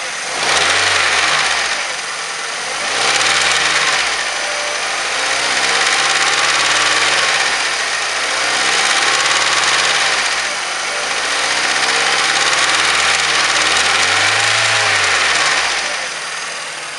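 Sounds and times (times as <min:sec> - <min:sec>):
car engine running with a knock: 0:00.0 - 0:16.9.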